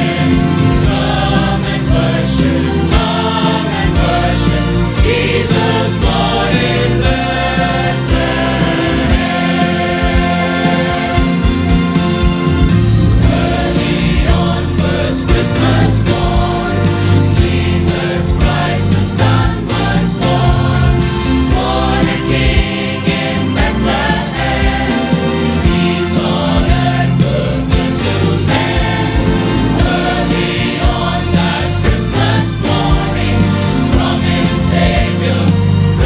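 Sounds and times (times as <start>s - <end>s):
choir singing with accompaniment: 0.0s - 36.0s.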